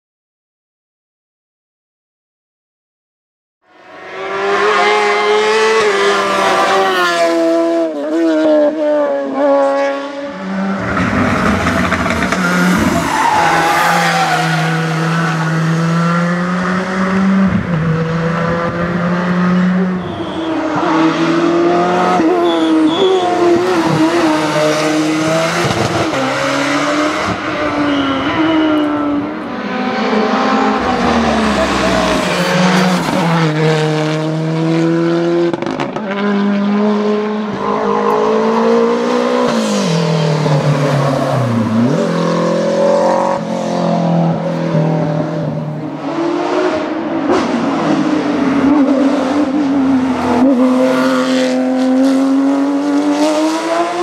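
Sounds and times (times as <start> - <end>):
rally car engine revving: 3.9 - 54.0.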